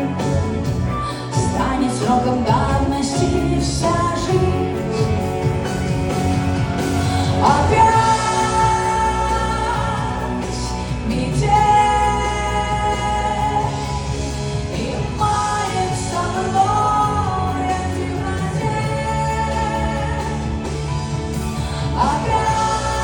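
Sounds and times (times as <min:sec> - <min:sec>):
pop band playing: 0:00.0 - 0:23.0.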